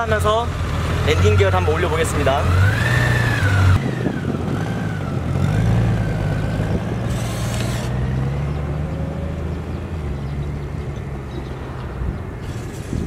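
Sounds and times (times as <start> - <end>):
motorcycle engine pulling away: 0.1 - 11.6.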